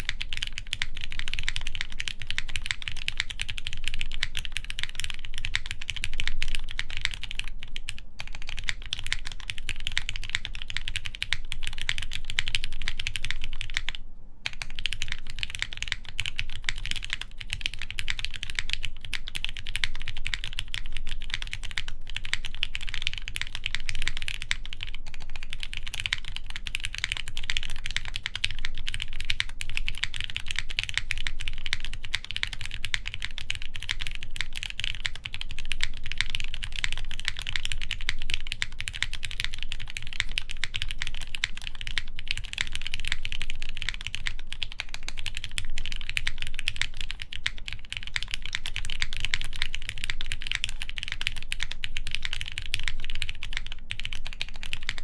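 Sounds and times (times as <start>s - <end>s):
fast mechanical keyboard typing: 0.0s - 55.0s.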